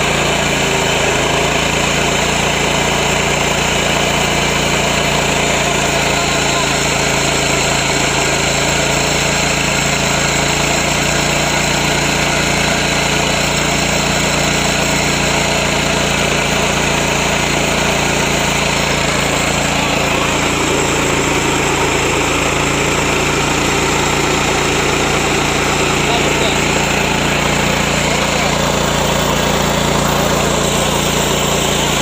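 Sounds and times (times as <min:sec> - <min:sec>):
small gasoline engine running: 0:00.0 - 0:32.0.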